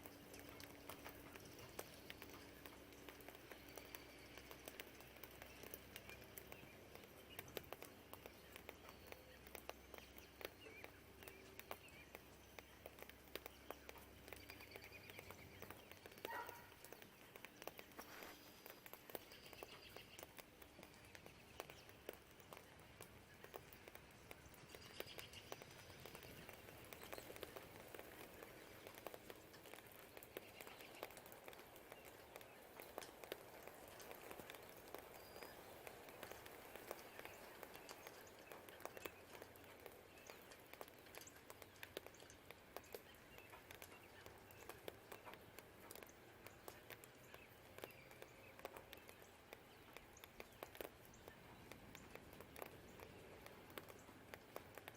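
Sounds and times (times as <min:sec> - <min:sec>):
rain dripping and pattering: 0:00.0 - 0:54.9.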